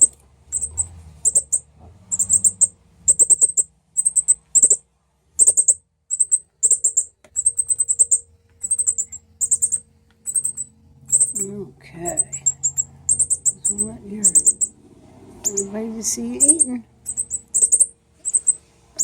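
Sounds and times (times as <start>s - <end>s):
baby birds cheeping: 0.0s - 4.8s, 5.4s - 19.0s.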